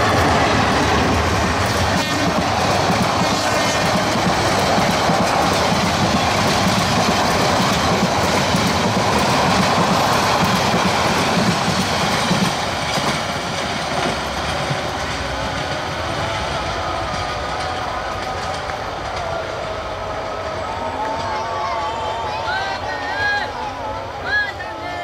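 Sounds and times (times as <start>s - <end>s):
wheels clickety-clack on rail joints: 0.0s - 21.5s
train rushing past: 0.0s - 25.0s.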